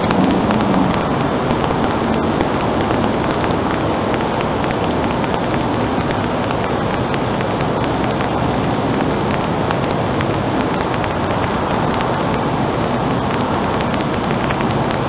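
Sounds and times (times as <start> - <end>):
faint clicks: 0.0 - 15.0
steady rushing noise: 0.0 - 15.0.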